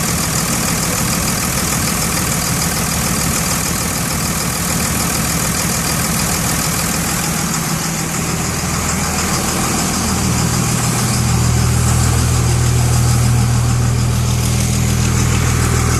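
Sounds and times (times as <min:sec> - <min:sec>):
diesel engine idling with knock: 0:00.0 - 0:15.9.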